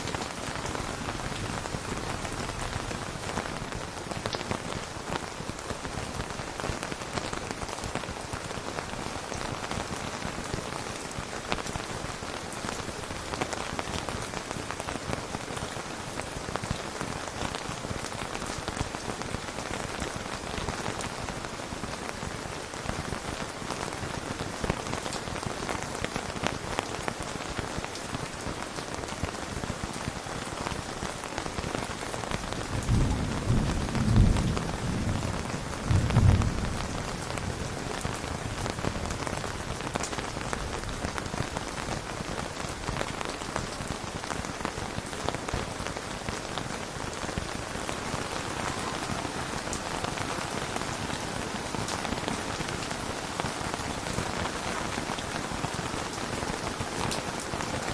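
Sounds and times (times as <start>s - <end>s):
heavy rain on hard surface: 0.0s - 57.9s.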